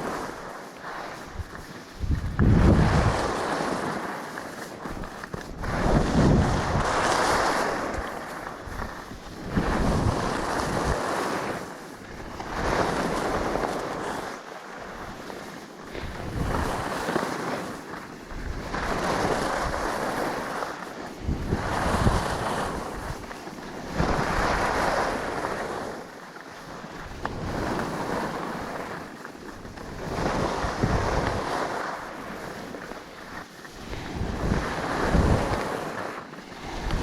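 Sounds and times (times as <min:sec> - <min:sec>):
skis scraping over snow: 0:00.0 - 0:37.0
wind buffeting microphone: 0:00.0 - 0:37.0.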